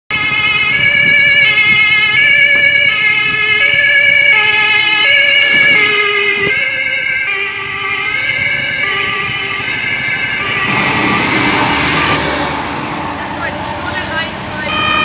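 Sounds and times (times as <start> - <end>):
two-tone sirens: 0.1 - 15.0.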